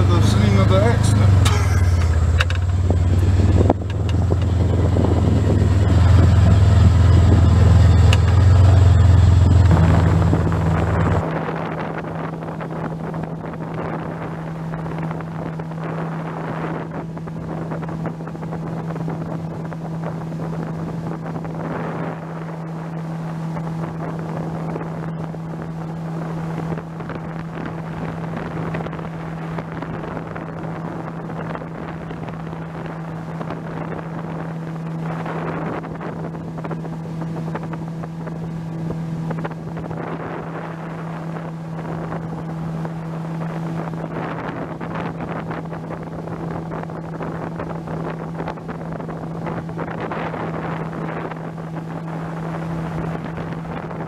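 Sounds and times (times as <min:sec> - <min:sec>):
outboard motor running: 0:00.0 - 0:54.0
wind buffeting the microphone: 0:00.0 - 0:54.0.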